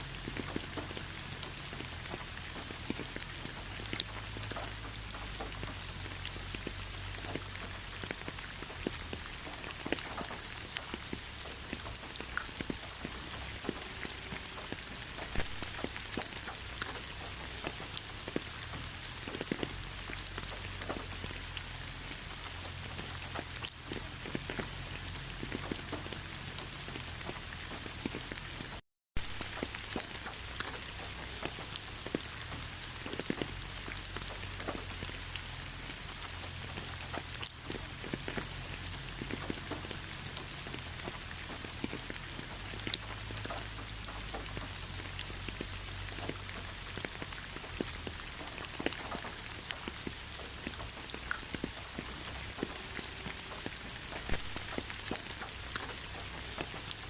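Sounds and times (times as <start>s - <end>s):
steady rain drops ticking: 0.0s - 57.0s.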